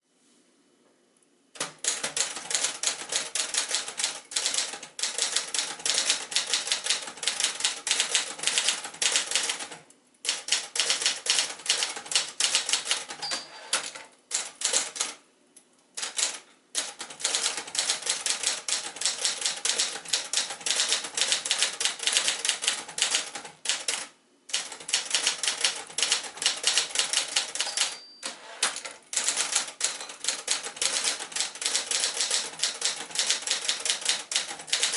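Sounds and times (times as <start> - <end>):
typewriter keystroke clacks: 1.6 - 15.2, 16.0 - 34.9.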